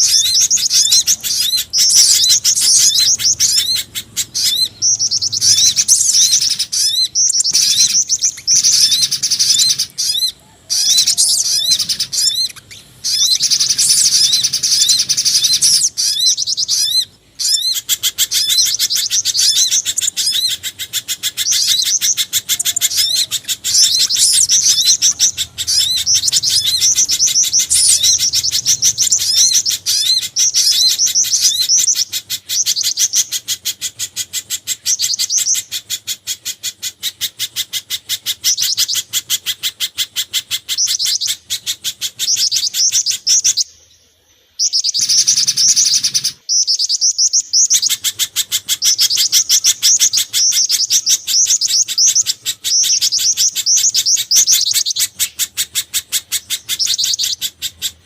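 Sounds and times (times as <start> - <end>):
fast high repeated bird chirps: 0.0 - 43.7, 44.6 - 58.0.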